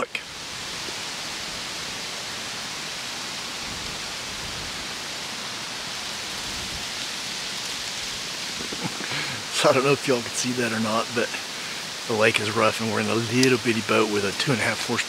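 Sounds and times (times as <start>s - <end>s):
rain falling on woodland: 0.0s - 15.0s.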